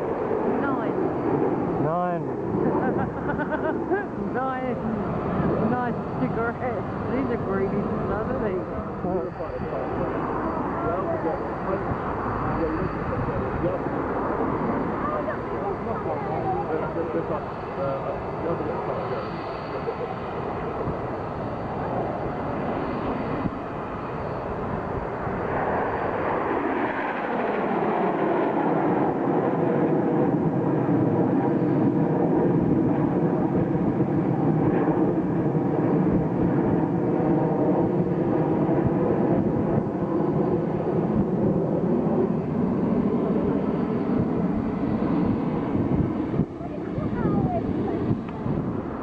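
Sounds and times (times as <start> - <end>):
jets flying over: 0.0 - 49.0.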